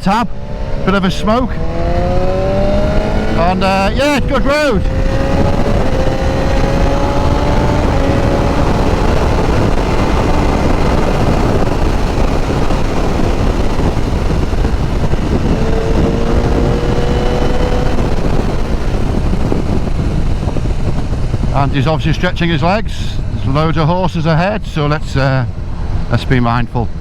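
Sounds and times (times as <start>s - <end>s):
motorcycle engine running: 0.0s - 27.0s
wind rush over microphone: 0.0s - 27.0s.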